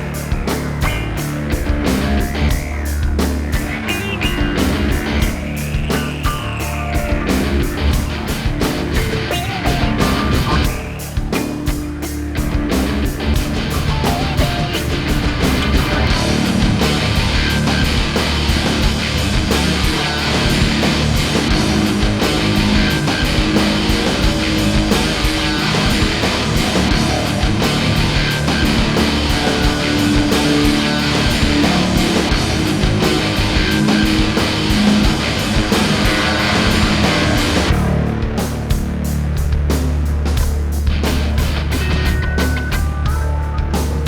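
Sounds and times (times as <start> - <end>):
loud rock music: 0.0 - 44.0.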